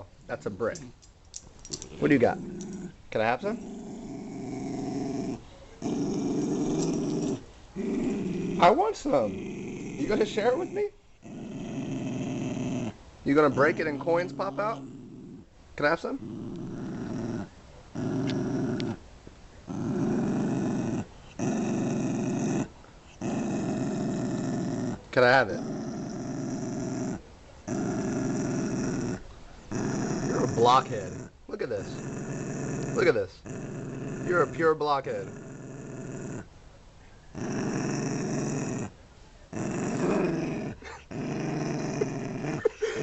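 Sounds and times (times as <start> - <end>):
dog growling low: 1.8 - 19.0, 19.6 - 36.5, 37.3 - 43.0.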